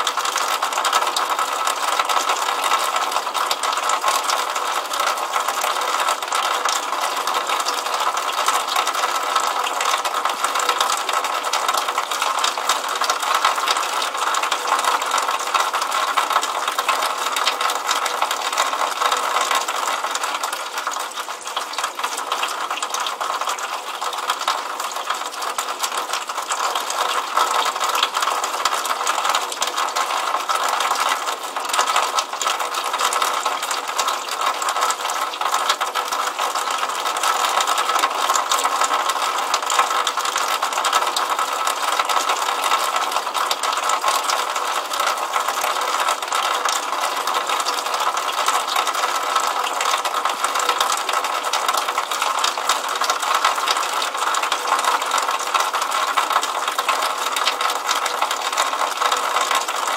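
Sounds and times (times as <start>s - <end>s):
water trickling onto pavement: 0.0s - 59.9s.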